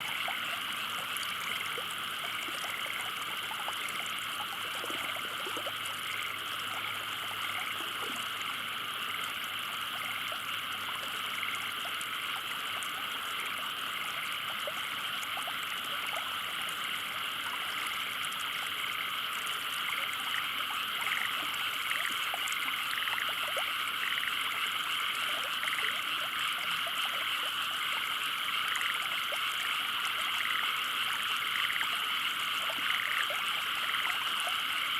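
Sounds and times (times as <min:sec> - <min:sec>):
frogs calling: 0:00.0 - 0:34.9.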